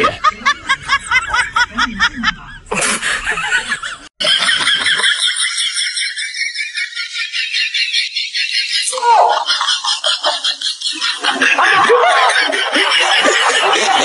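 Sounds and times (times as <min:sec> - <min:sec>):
high-pitched laughter: 0:00.0 - 0:14.0.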